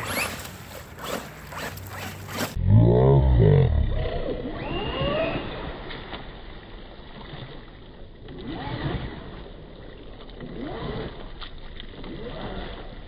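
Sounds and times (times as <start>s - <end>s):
tires splashing through muddy water: 0.0s - 13.0s.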